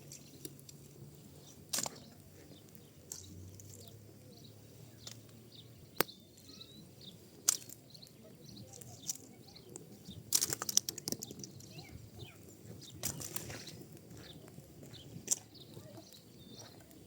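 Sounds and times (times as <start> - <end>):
fire crackling and popping: 0.0 - 17.0
low burning rumble: 0.0 - 17.0.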